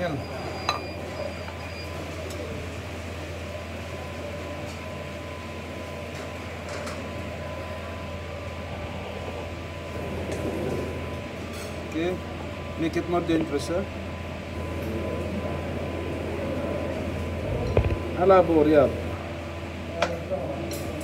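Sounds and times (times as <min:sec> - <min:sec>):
kitchen machinery hum: 0:00.0 - 0:21.0
thin steady whine: 0:00.0 - 0:21.0.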